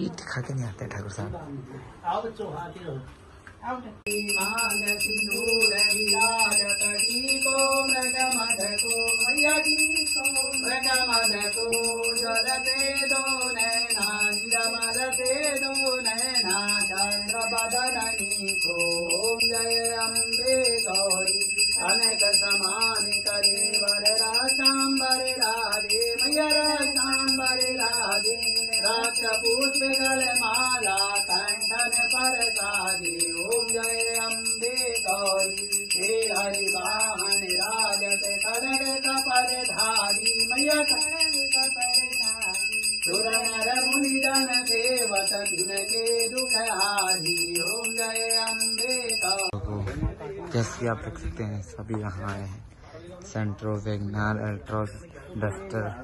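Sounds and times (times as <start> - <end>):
bell ringing: 4.1 - 49.6
devotional song singing: 4.1 - 49.6.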